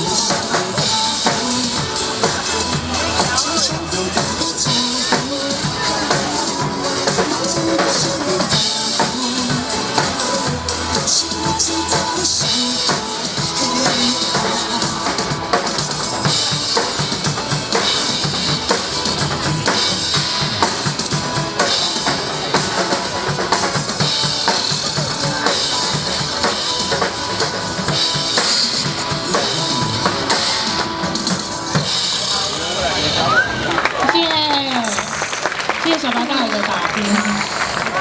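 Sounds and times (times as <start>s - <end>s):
drum kit played fast: 0.0s - 33.2s
backing music: 0.0s - 38.0s.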